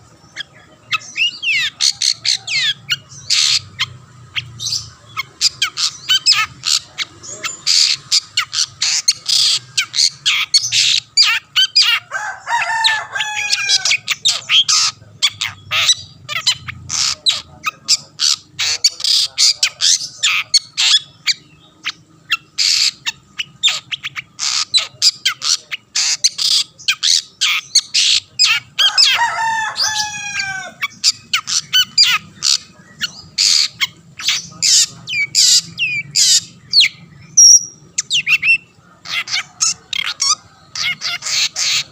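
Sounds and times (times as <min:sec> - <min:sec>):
bird chattering song: 0:00.0 - 0:41.9.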